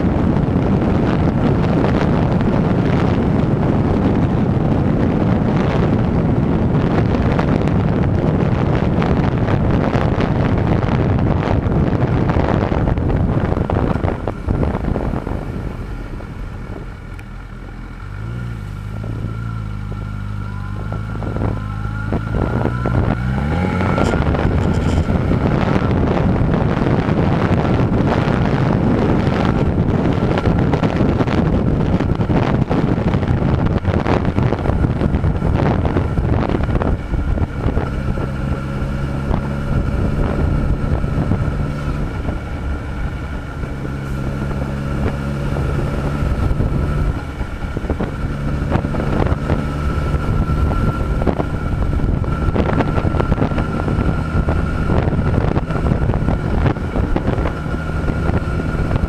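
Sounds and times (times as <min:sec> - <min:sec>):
motorcycle engine cruising: 0:00.0 - 0:59.0
wind rush on microphone: 0:00.0 - 0:59.0.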